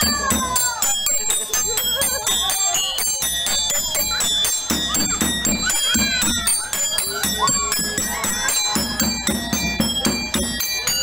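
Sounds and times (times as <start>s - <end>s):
metallic bell-like percussion: 0.0s - 11.0s.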